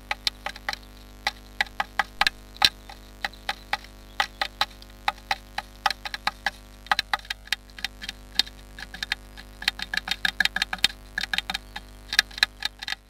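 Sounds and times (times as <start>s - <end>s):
bird pecking wood: 0.0s - 13.0s.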